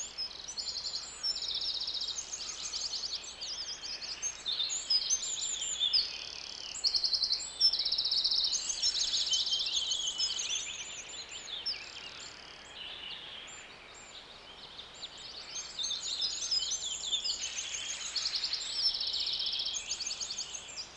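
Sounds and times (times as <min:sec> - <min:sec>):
songbirds singing and chirping: 0:00.0 - 0:20.9.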